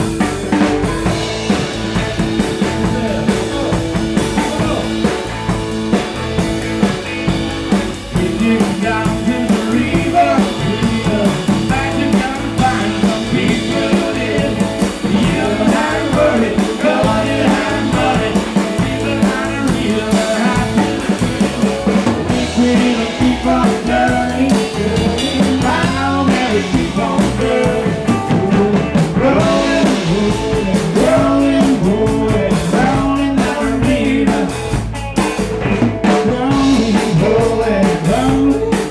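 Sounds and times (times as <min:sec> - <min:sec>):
person singing: 0:00.0 - 0:05.3, 0:07.9 - 0:34.8, 0:36.0 - 0:38.9
drum kit beat: 0:00.0 - 0:38.9
live rock band playing: 0:00.0 - 0:38.9.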